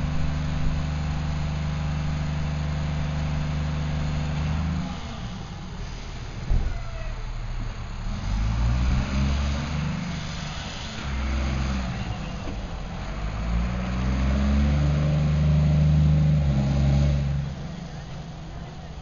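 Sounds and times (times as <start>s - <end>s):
garbage truck engine accelerating: 0.0s - 19.0s.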